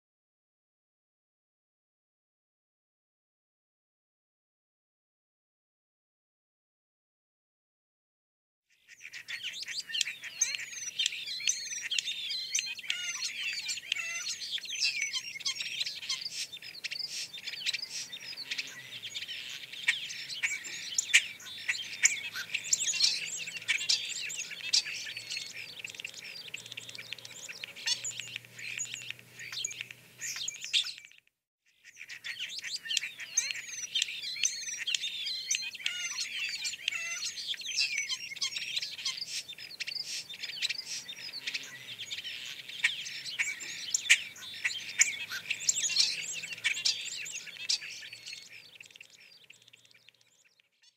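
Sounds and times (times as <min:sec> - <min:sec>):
small birds chirping and twittering: 0:08.7 - 0:50.9.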